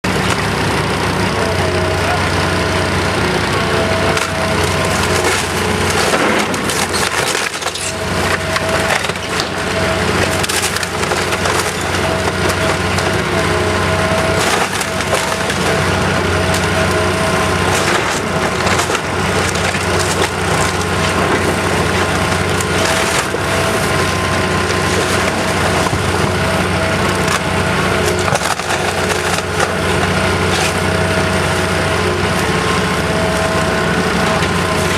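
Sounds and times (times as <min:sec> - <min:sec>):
demolition machine engine: 0:00.0 - 0:34.9
timber cracking and splintering: 0:03.9 - 0:34.9.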